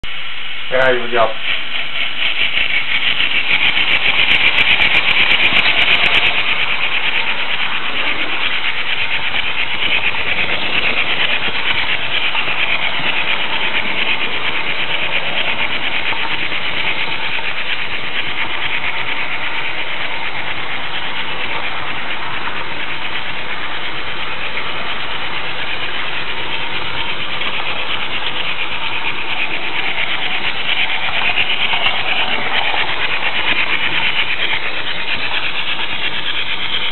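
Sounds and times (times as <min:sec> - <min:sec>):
model train whirring on track: 0:00.0 - 0:36.9.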